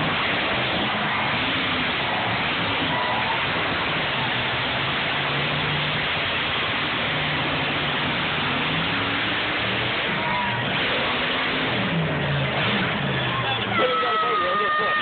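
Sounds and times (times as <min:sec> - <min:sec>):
monster truck engines running: 0:00.0 - 0:15.0.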